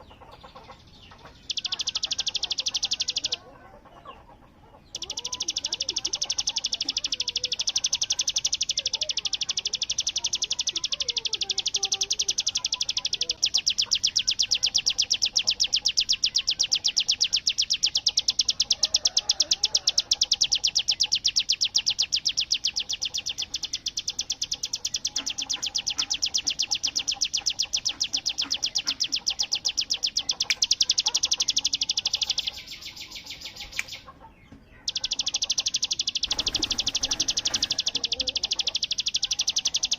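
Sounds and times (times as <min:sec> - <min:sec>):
bird fast trilling song: 0:00.0 - 0:39.9
faint bird chirps: 0:00.0 - 0:39.9.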